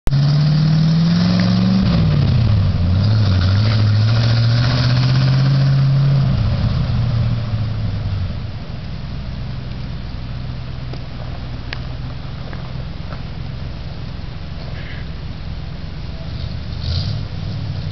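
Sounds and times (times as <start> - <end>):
truck engine running: 0.1 - 17.9.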